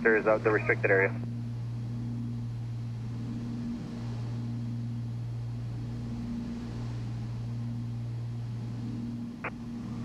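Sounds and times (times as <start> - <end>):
propeller plane engines droning: 0.0 - 10.0.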